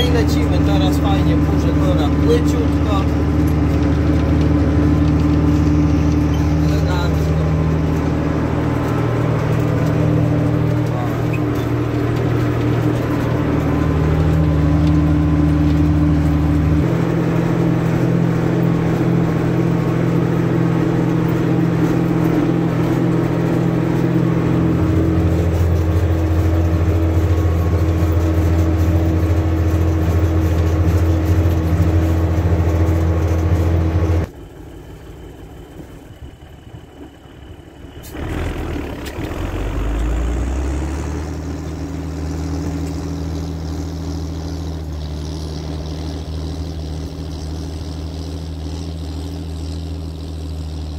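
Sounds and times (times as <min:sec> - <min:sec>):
tractor engine under load: 0:00.0 - 0:50.9.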